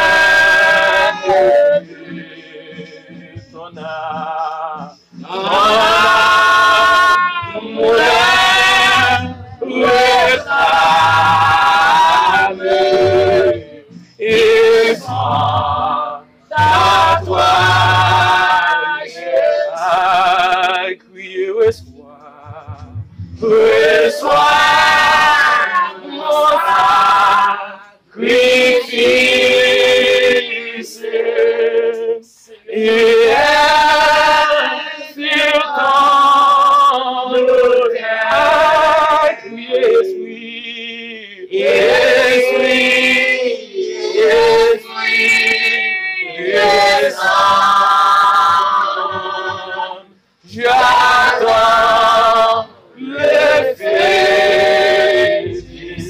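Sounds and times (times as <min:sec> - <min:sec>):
voices singing a hymn: 0:00.0 - 0:56.0.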